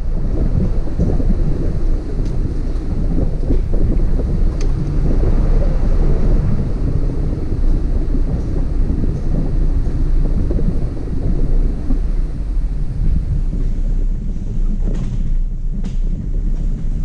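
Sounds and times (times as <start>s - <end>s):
vehicle engine rumble: 0.0s - 17.0s
wind buffeting microphone: 0.0s - 17.0s.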